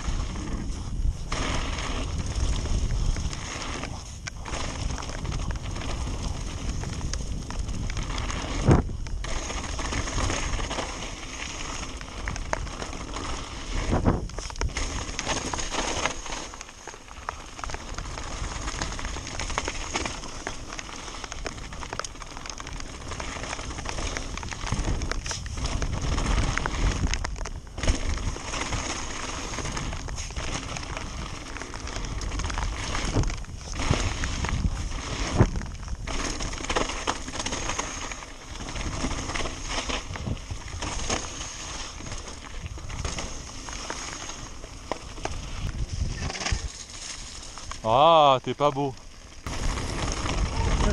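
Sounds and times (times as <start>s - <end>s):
bike tyres rattling on gravel: 0.0s - 50.9s.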